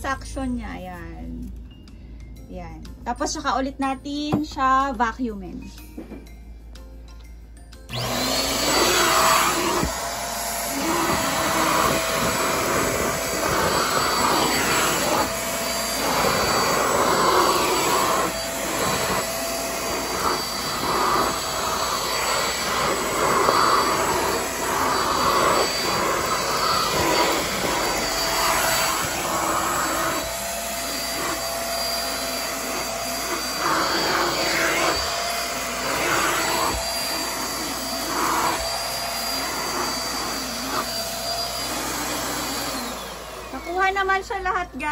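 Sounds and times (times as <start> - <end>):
stick vacuum cleaner running: 7.9 - 44.9
vacuum nozzle on shaggy carpet: 7.9 - 44.9.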